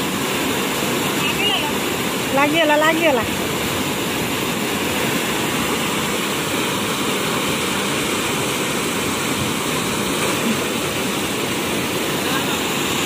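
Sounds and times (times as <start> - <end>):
water rushing through channel: 0.0 - 13.0.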